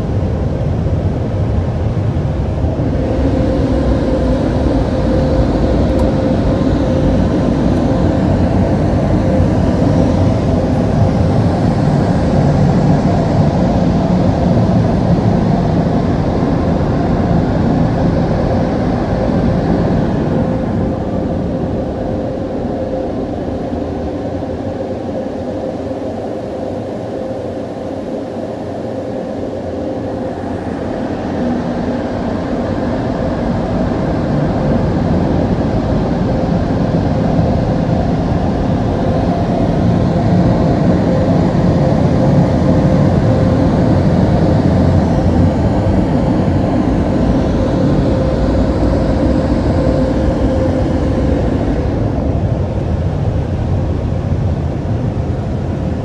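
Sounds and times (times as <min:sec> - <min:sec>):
car wash dryer blowers rushing: 0:00.0 - 0:56.0.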